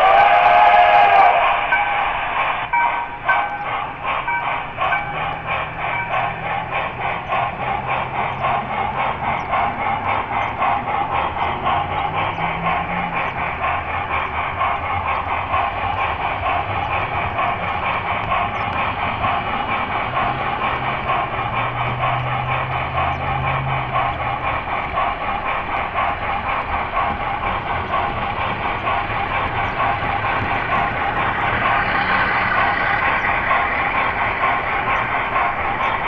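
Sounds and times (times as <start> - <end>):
model train rolling on track: 0.0 - 36.0
wheels clicking over rail joints: 0.2 - 36.0.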